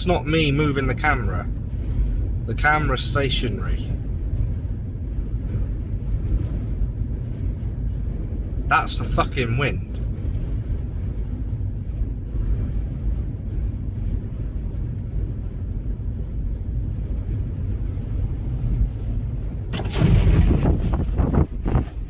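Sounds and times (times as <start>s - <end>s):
gusting wind on microphone: 0.0s - 22.0s.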